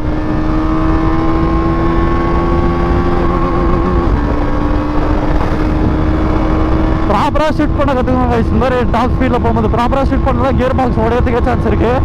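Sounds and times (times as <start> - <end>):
motorcycle engine running hard: 0.0 - 12.0
wind rushing over microphone: 0.0 - 12.0.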